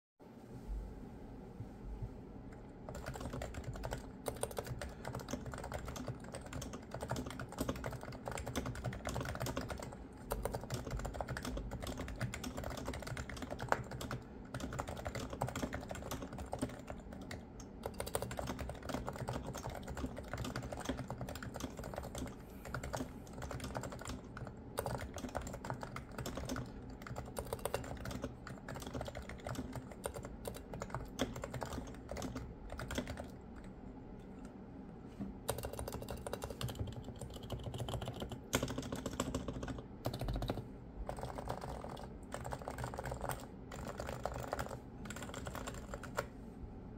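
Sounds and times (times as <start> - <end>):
soft keyboard typing: 2.5 - 34.6, 35.4 - 46.4.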